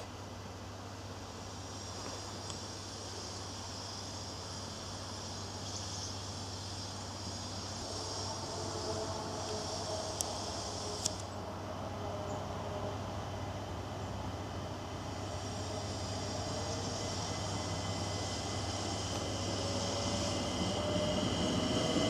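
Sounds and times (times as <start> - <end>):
electric train whine: 0.0 - 22.0
insects chirping: 0.0 - 22.0.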